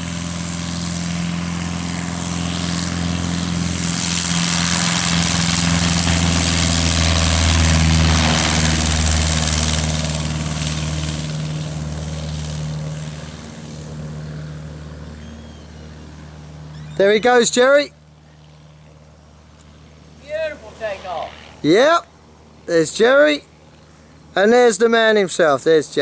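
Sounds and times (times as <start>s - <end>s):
light aircraft engine and propeller: 0.0s - 26.0s.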